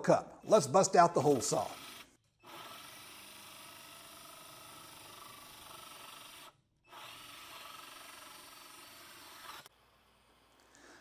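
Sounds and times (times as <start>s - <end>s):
cordless drill cutting plywood: 1.3s - 11.0s.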